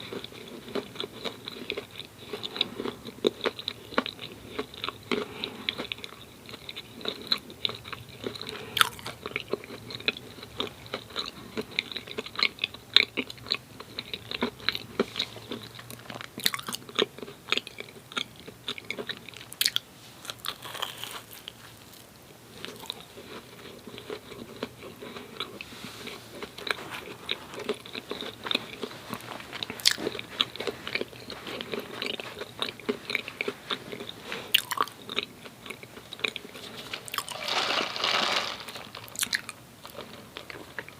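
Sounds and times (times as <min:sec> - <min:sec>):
chewing with wet mouth sounds: 0:00.0 - 0:37.3.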